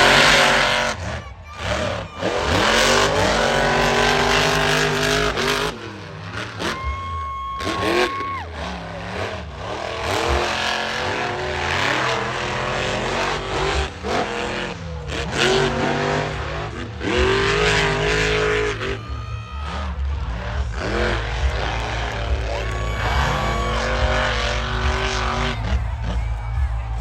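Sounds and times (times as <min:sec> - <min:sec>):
monster truck engines revving: 0:00.0 - 0:27.0.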